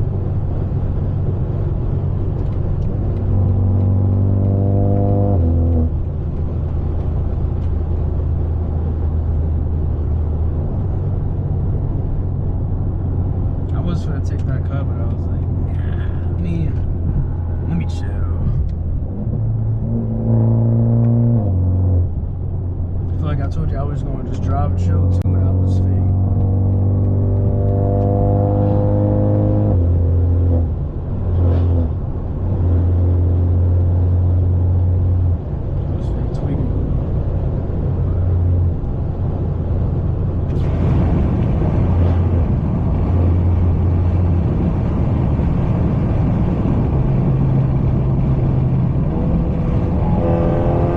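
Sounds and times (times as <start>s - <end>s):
car exhaust drone: 0.0s - 50.9s.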